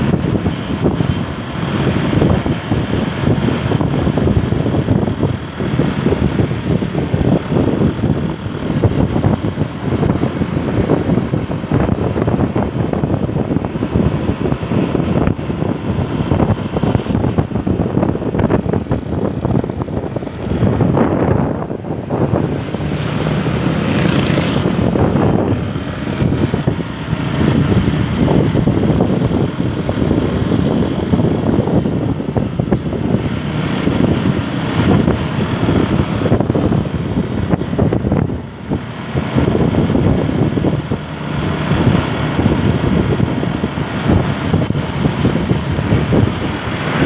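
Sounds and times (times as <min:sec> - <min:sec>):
road noise: 0:00.0 - 0:47.0
vehicle engine: 0:00.0 - 0:47.0.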